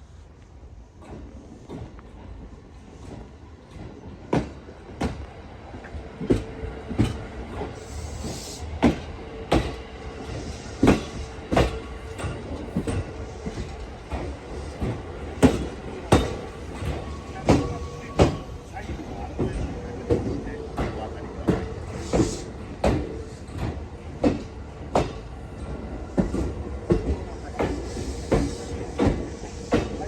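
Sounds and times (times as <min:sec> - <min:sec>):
steady train rumble: 0:00.0 - 0:30.0
train wheels clacking over rail joints: 0:00.9 - 0:30.0.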